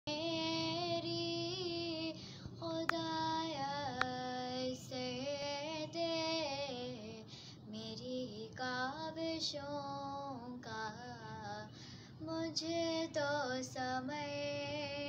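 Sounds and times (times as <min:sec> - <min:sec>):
girl singing prayer song: 0:00.1 - 0:15.0.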